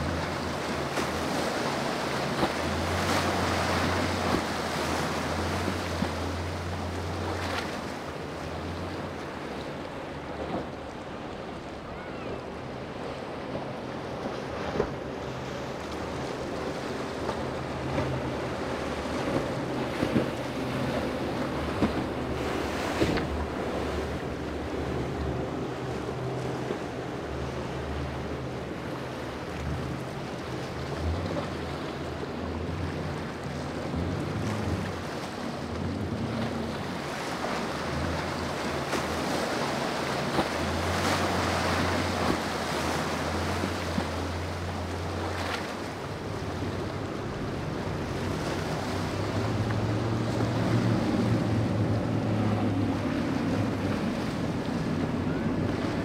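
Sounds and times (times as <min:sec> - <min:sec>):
boat engines droning: 0:00.0 - 0:56.0
surf: 0:00.0 - 0:56.0.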